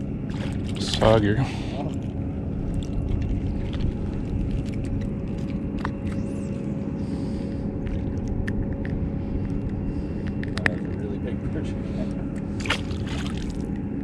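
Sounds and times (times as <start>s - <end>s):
electric trolling motor humming: 0.0s - 14.0s
low rumble: 0.0s - 14.0s.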